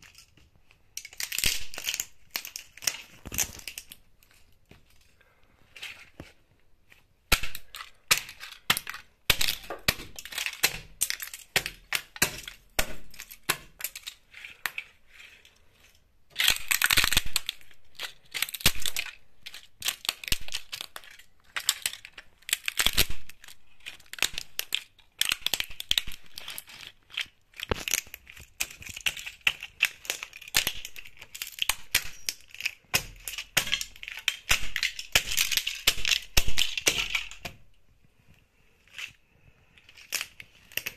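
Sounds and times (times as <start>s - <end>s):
plastic cracking underfoot: 0.0s - 6.4s, 7.2s - 14.9s, 16.3s - 37.8s, 39.9s - 40.9s.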